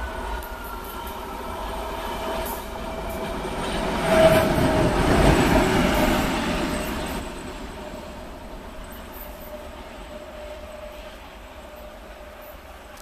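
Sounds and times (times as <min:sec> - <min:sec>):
wheels running on rails: 0:00.0 - 0:13.0.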